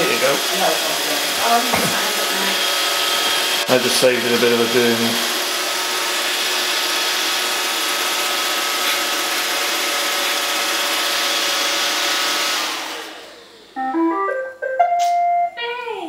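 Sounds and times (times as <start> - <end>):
robot vacuum motors running: 0.0 - 13.8.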